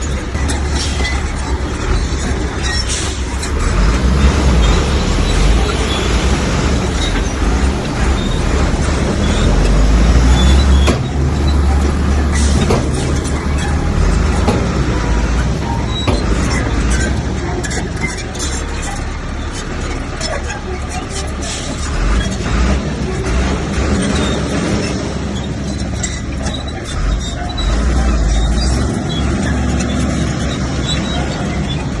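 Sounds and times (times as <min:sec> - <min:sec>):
heavy diesel machinery rumbling: 0:00.0 - 0:32.0.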